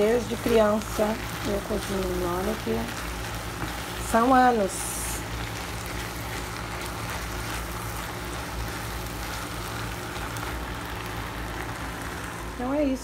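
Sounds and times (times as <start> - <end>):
spatula stirring: 0.0 - 12.3
meat sizzling in a pot: 0.0 - 13.0
steady low hum: 0.0 - 13.0.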